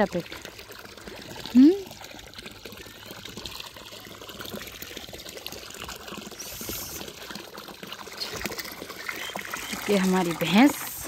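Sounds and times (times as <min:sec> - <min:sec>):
water trickling and pouring: 0:00.0 - 0:11.0.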